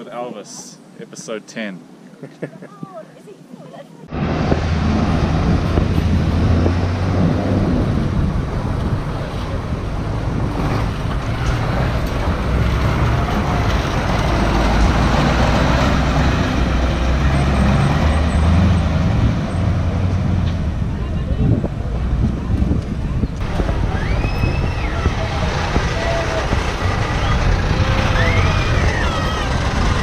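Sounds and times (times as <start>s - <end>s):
steady traffic noise: 0.0s - 30.0s
bus engines pulling away: 4.1s - 30.0s.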